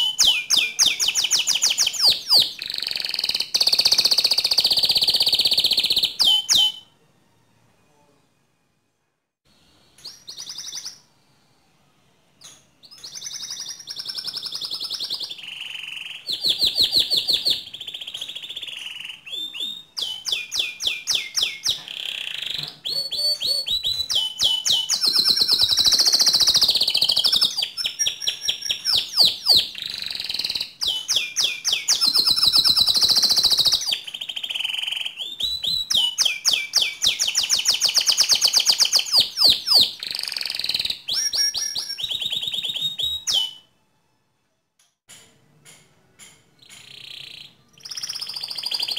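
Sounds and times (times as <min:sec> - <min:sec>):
canary singing trills: 0:00.0 - 0:06.9, 0:10.0 - 0:11.1, 0:12.4 - 0:43.7, 0:46.6 - 0:48.9.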